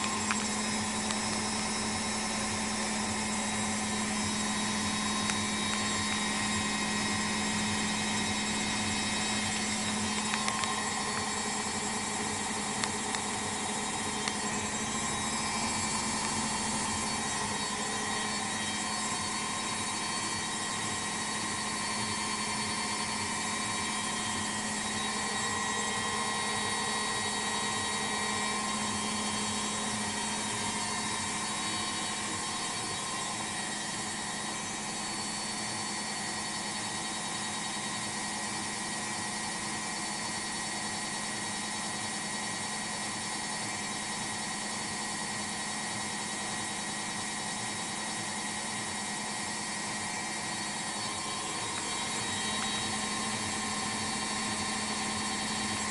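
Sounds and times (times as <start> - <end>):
washing machine spinning: 0.0 - 55.9.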